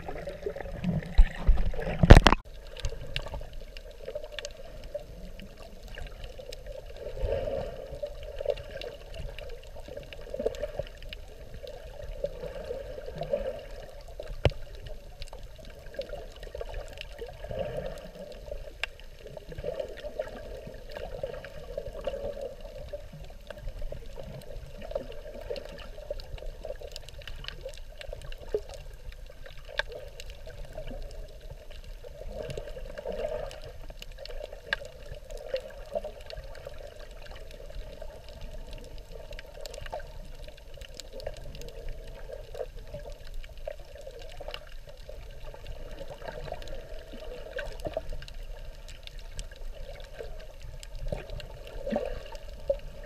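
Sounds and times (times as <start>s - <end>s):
faint underwater clicks: 0.0s - 53.0s
low underwater rumble: 0.0s - 53.0s
muffled underwater water noise: 0.0s - 53.0s.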